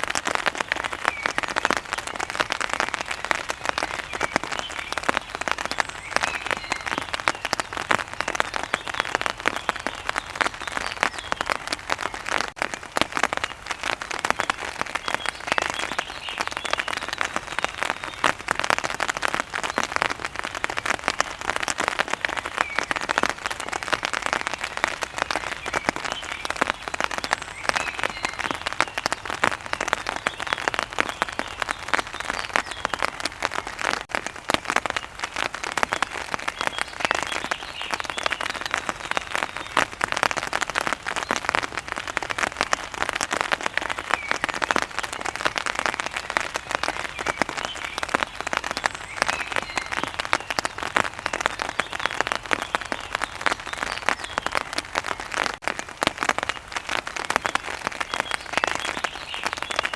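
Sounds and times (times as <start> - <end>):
steady rain spatter: 0.0 - 59.9.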